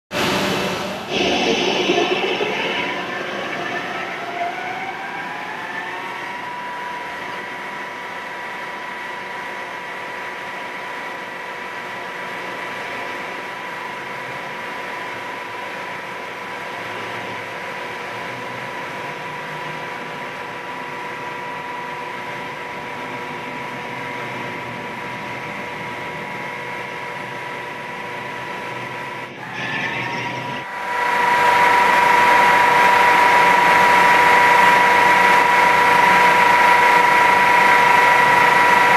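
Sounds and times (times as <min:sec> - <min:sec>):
mill spindle whine: 0:00.1 - 0:38.9.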